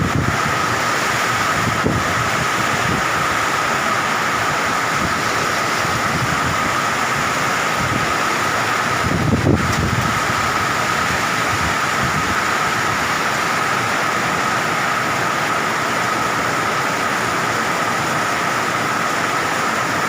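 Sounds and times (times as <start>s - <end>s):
heavy rain: 0.0s - 20.0s
strong wind: 0.0s - 20.0s.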